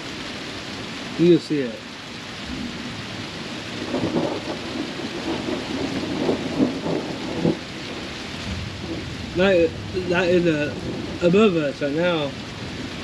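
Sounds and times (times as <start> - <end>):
heavy rain: 0.0 - 13.0
thunder rumbling: 2.4 - 13.0.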